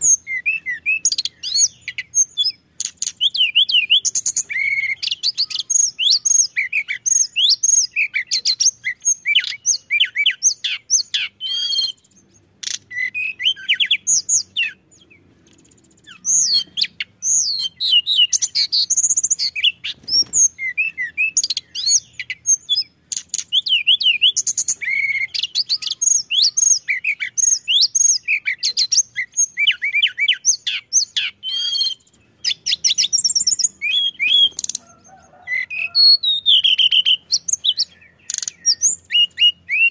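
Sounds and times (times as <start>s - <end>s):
songbird singing whistled phrases: 0.0s - 39.9s.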